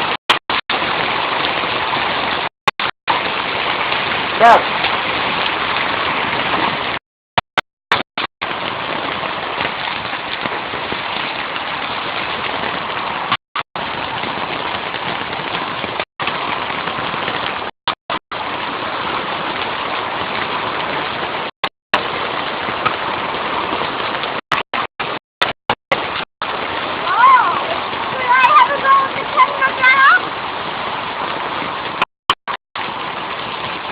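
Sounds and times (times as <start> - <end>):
hail and rain pelting down: 0.0 - 2.5, 3.1 - 7.0, 8.4 - 17.7, 18.3 - 25.2, 25.9 - 32.0, 32.8 - 33.9.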